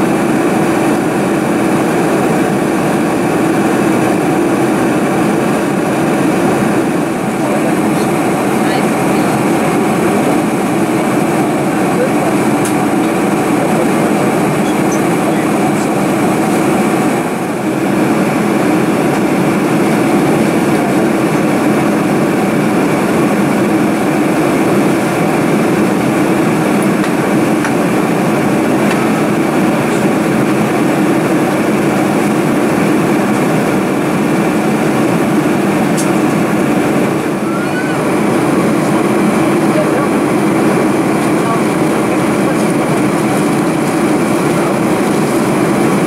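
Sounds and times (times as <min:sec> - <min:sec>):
airliner cabin noise: 0:00.0 - 0:46.0.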